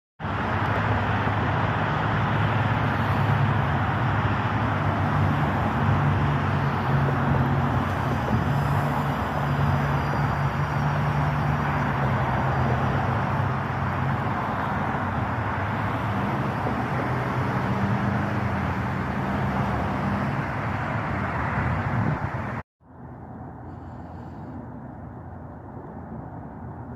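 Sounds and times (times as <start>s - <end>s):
low engine hum: 0.2s - 26.9s
road traffic: 0.2s - 26.9s.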